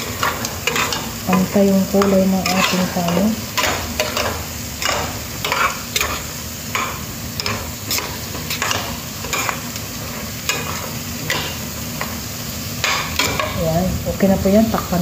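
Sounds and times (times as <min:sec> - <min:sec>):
spatula scraping rice in a pan: 0:00.0 - 0:12.2
steady sizzle: 0:00.0 - 0:15.0.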